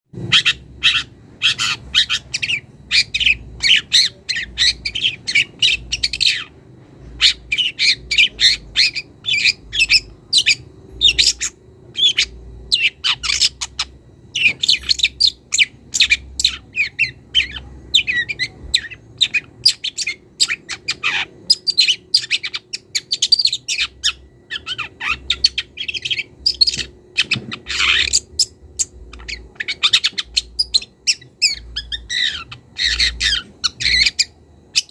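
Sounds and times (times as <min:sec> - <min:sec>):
bird chattering and squawking: 0:00.2 - 0:06.6, 0:07.2 - 0:34.9.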